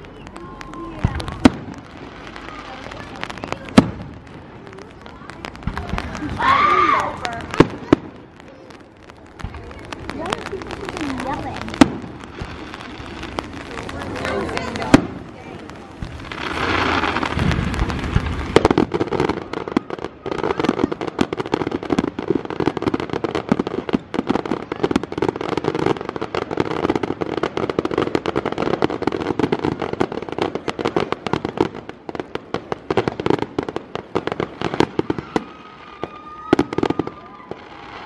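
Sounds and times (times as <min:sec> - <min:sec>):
fireworks crackling and banging: 0:00.0 - 0:38.0.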